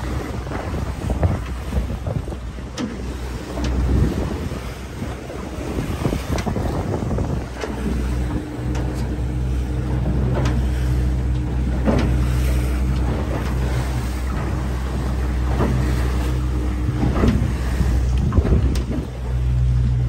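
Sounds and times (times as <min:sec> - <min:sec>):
motorboat engine humming: 0:00.0 - 0:20.0
water rushing past hull: 0:00.0 - 0:20.0
waves slapping hull: 0:00.0 - 0:20.0
wind buffeting microphone: 0:00.0 - 0:20.0.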